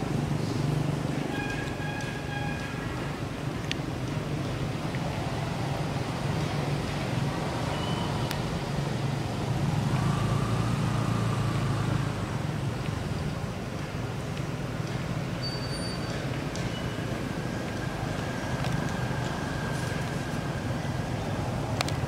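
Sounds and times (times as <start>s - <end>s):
low rumble of motor traffic: 0.0s - 22.0s.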